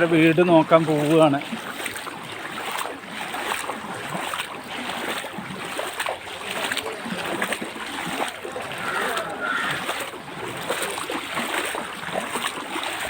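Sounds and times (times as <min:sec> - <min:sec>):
person wading through water: 0:00.0 - 0:13.0.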